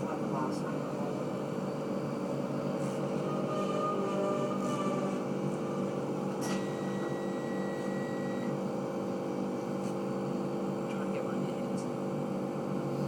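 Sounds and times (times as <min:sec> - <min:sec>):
train running hum: 0:00.0 - 0:13.0.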